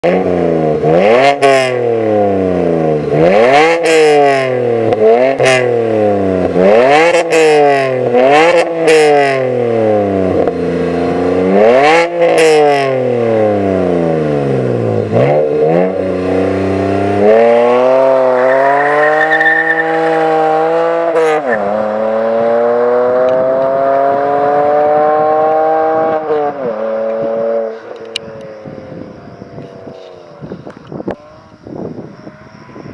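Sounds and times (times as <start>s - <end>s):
car engine revving: 0.0s - 31.6s.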